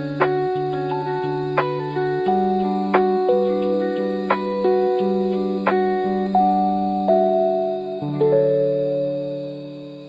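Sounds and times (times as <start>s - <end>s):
keyboard chord ringing: 0.0s - 10.0s.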